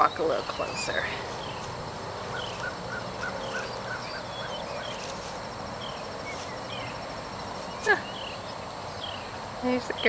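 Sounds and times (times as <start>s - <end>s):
high falling bird chirps: 0.0s - 10.0s
steady insect trill: 0.0s - 10.0s.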